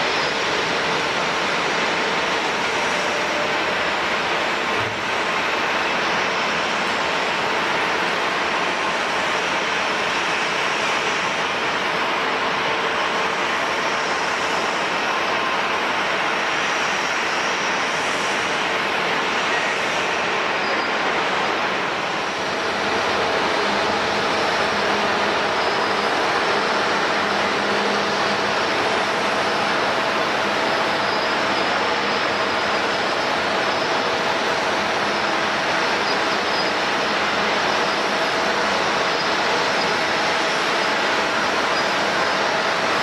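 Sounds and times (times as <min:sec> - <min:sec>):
jet engines rushing: 0:00.0 - 0:43.0.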